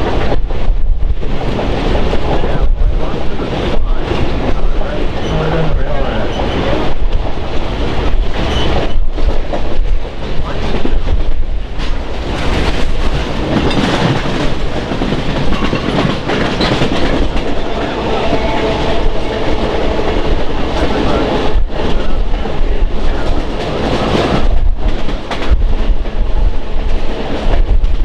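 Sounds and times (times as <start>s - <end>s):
train wheels clicking on rail joints: 3.0s - 28.0s.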